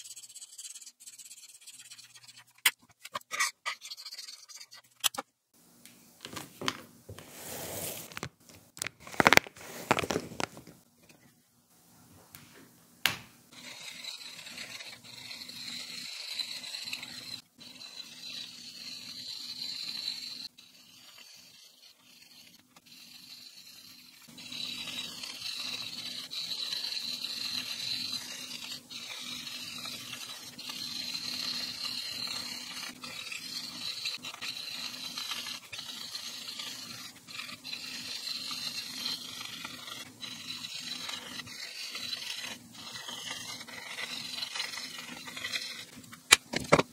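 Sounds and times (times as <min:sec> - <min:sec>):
marker scratching on paper: 0:00.0 - 0:05.0, 0:13.5 - 0:46.2.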